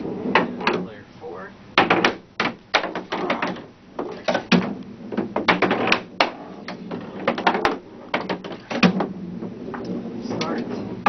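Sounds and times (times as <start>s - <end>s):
skee-ball balls clacking: 1.8s - 11.0s.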